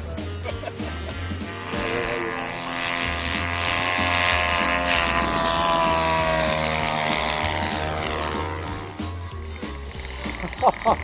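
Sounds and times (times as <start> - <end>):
model airplane engine buzzing: 0.5 - 11.0.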